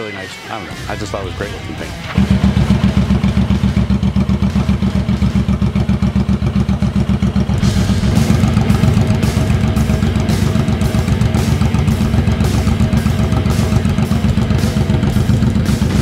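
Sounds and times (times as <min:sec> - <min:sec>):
motorcycle engine idling: 0:00.7 - 0:16.0.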